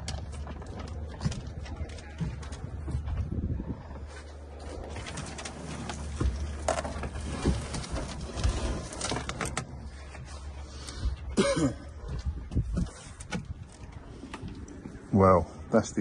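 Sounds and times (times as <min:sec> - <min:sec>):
low rumble: 0:00.0 - 0:15.7.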